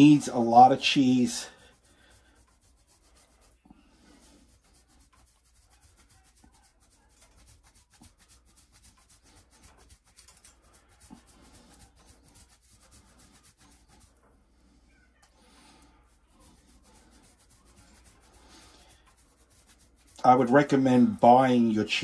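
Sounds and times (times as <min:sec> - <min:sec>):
cheese grating on hand grater: 0:00.0 - 0:14.2, 0:16.0 - 0:22.0.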